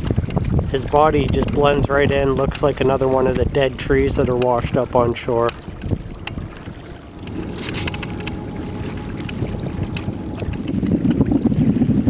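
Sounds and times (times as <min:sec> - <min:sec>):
water splashes: 0:00.0 - 0:12.0
wind on microphone: 0:00.0 - 0:12.0.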